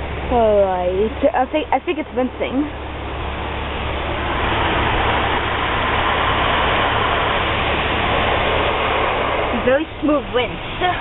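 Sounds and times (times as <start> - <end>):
car wash water spraying: 0.0 - 11.0
steady low hum: 0.0 - 11.0.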